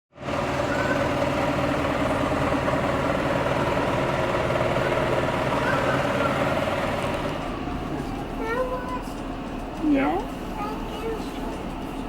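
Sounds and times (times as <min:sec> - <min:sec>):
vehicle running hum: 0:00.2 - 0:12.0.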